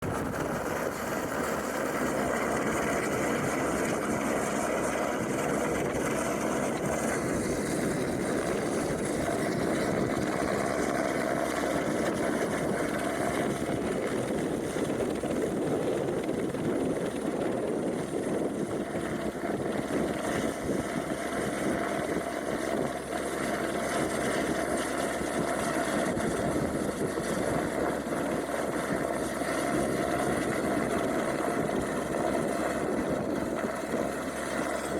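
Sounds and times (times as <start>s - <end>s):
helicopter turbine and rotor: 0.0s - 34.9s.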